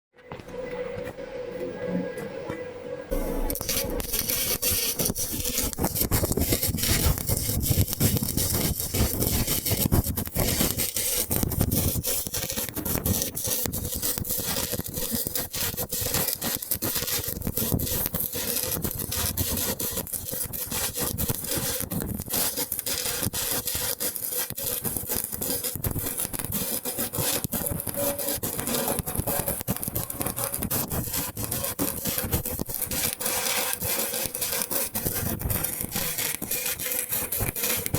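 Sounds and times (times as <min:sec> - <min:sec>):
welding arc crackling: 0:03.1 - 0:37.9.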